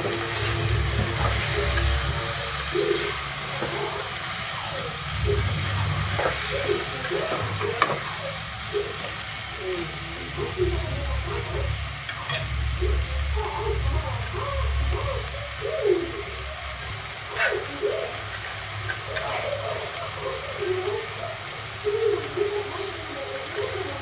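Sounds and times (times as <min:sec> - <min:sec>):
stirring in a pot: 0:00.0 - 0:09.6, 0:10.6 - 0:22.4
food sizzling in a pot: 0:00.0 - 0:24.0.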